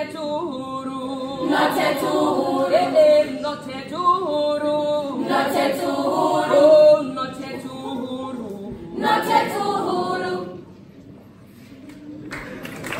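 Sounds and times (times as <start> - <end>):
girls' choir singing in harmony: 0.0 - 10.8.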